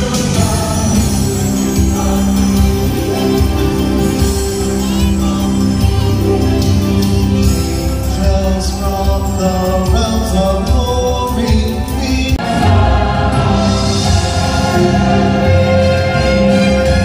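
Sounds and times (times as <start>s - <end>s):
choir singing christmas music: 0.0s - 17.0s
instrumental accompaniment: 0.0s - 17.0s.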